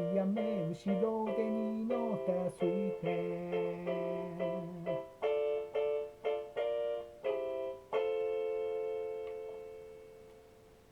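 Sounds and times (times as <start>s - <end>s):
keyboard piano chords: 0.0s - 10.9s.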